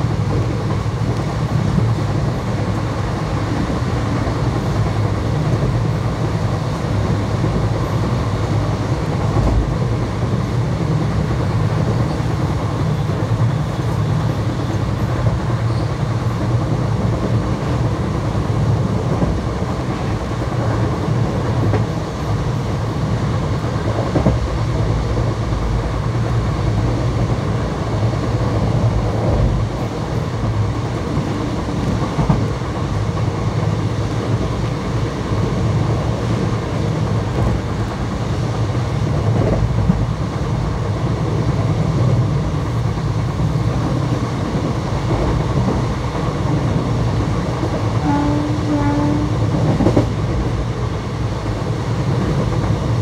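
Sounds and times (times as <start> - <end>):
faint clicks at rail joints: 0.0 - 6.4, 7.0 - 26.4, 28.0 - 50.7
train wheels rumbling on rails: 0.0 - 53.0.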